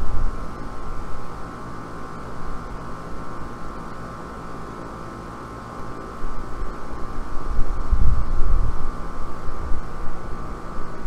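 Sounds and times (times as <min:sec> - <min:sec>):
air conditioner fan and motor drone: 0:00.0 - 0:11.0.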